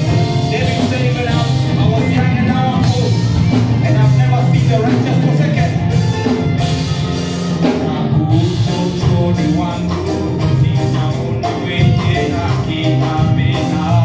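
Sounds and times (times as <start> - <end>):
band with drum kit playing: 0.0 - 14.0.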